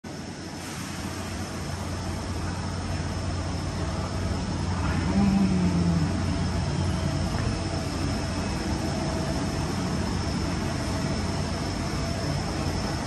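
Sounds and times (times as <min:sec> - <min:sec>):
machine tool humming and whining: 0:01.7 - 0:13.0.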